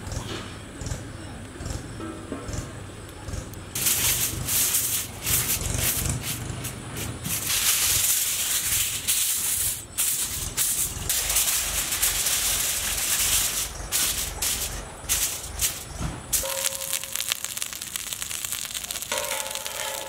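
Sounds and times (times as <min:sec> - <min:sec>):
aluminium foil crinkling: 0:03.8 - 0:20.0.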